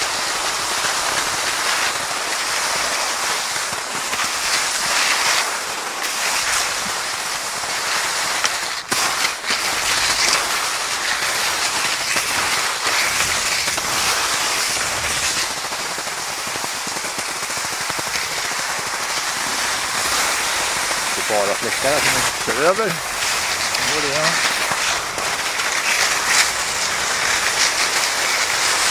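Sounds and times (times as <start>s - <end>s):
skis sliding over snow: 0.0s - 28.9s.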